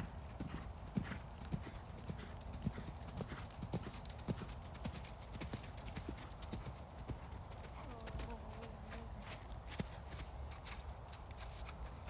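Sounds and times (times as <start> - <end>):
horse hoofbeats on sand: 0.0 - 12.0.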